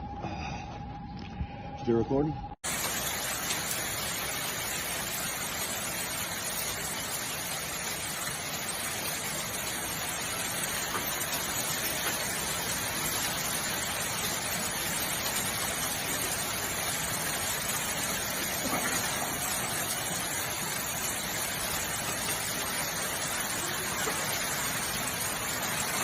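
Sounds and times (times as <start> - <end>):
heavy rain rushing: 2.6 - 26.0.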